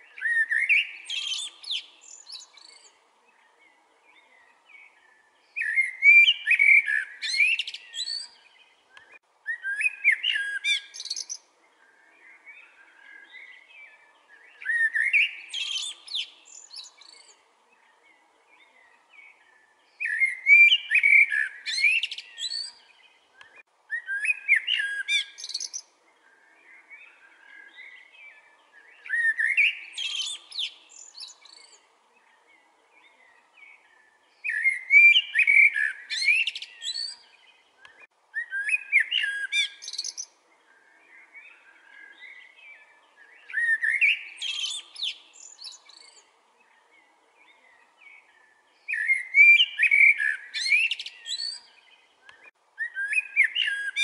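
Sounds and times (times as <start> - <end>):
blackbird singing: 0.0 - 54.0.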